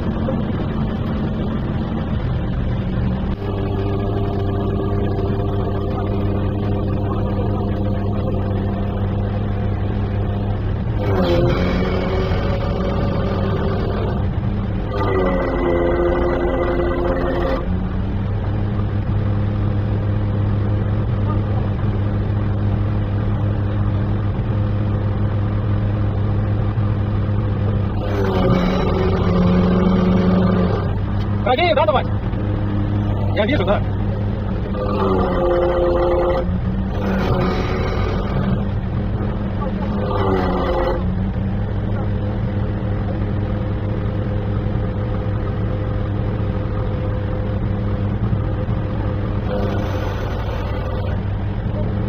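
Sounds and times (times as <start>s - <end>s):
crane engine running: 0.0s - 52.0s.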